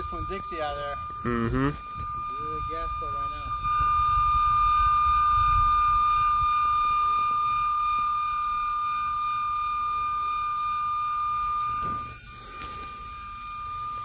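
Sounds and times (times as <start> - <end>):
gas escaping with high whistle: 0.0 - 14.0.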